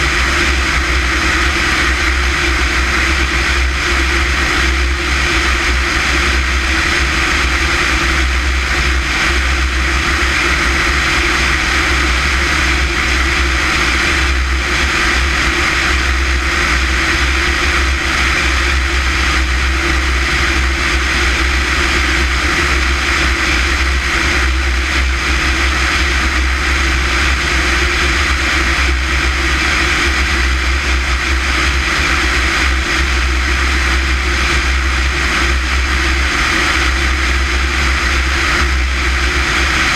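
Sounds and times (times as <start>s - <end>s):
propeller aircraft engine drone: 0.0s - 39.9s
wind rush: 0.0s - 39.9s.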